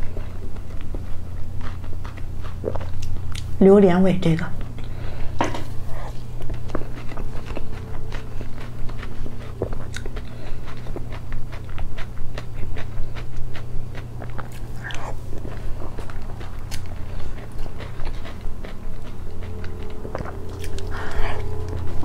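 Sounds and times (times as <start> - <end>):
chewing and mouth sounds: 0.0 - 3.6, 4.3 - 22.0
steady low hum: 0.0 - 22.0.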